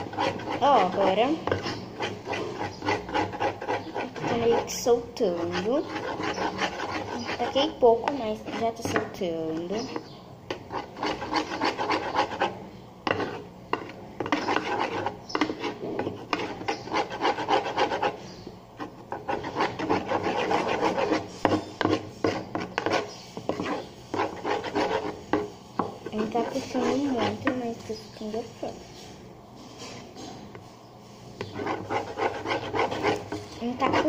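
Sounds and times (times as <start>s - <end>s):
utensil scraping container sides: 0.0s - 12.5s, 13.1s - 27.6s, 31.4s - 34.0s.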